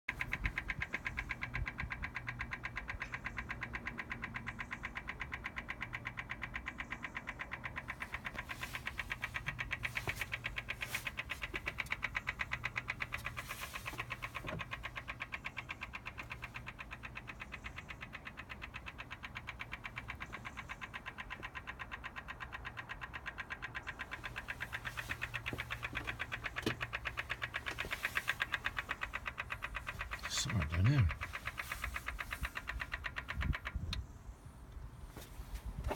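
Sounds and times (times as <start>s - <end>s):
rapid clicking from a car: 0.1s - 35.9s.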